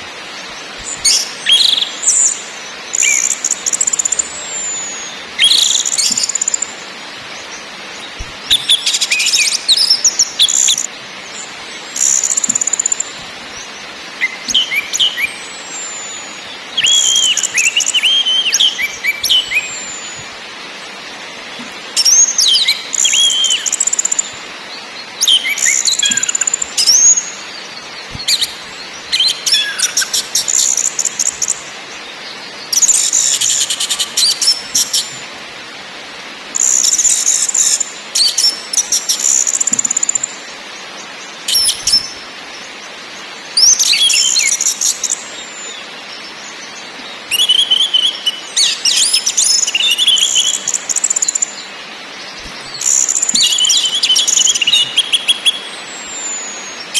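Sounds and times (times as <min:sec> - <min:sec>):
background hiss: 0:00.0 - 0:56.9.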